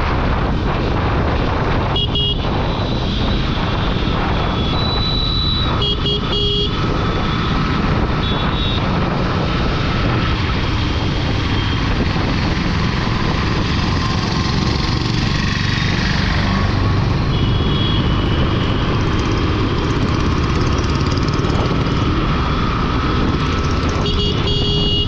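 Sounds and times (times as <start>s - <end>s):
road and wind noise: 0.0s - 25.0s
motorcycle engine running: 0.5s - 25.0s.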